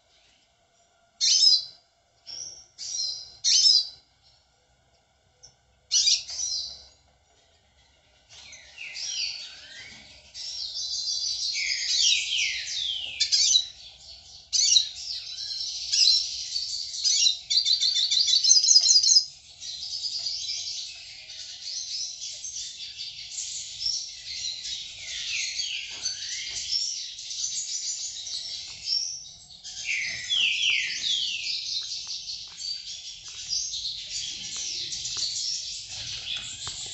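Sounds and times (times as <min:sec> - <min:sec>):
songbirds chirping and singing: 0:01.2 - 0:04.5, 0:05.4 - 0:36.9.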